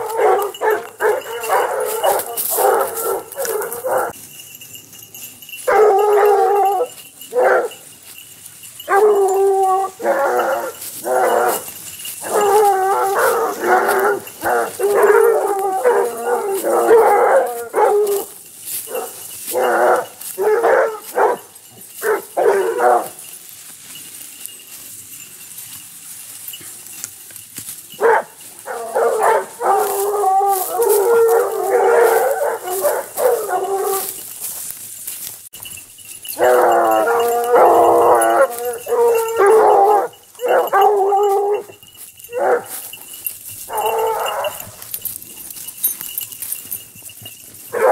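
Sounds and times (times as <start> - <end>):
hounds baying: 0.0 - 47.9.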